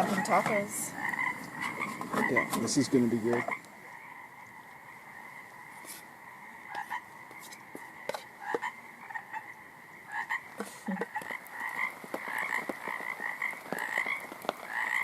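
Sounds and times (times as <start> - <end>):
frogs calling in chorus: 0.0 - 15.0.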